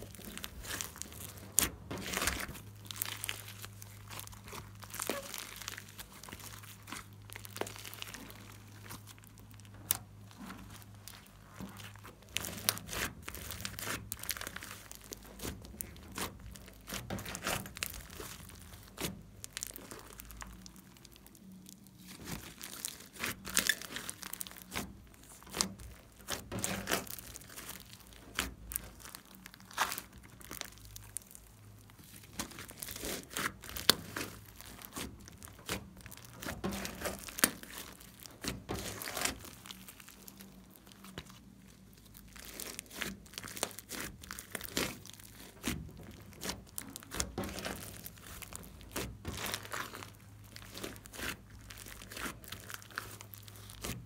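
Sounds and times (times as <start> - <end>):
slime crackling and popping: 0.0 - 54.0.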